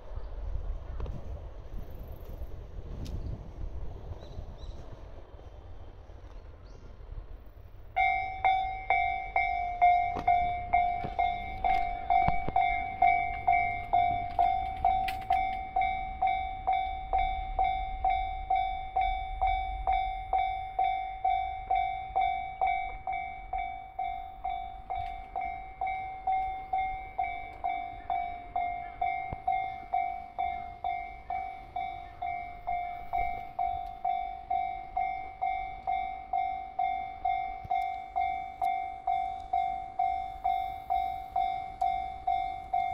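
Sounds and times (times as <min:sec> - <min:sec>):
level crossing bell clanging: 0:08.0 - 0:42.9.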